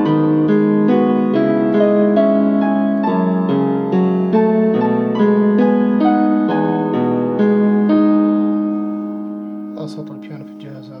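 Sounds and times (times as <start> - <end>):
electronic keyboard piano melody: 0.0 - 11.0.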